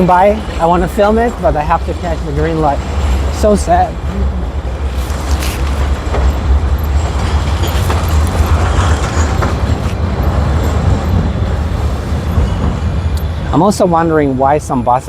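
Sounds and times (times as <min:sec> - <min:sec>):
road traffic: 0:00.0 - 0:15.0
tram rumbling: 0:00.0 - 0:15.0.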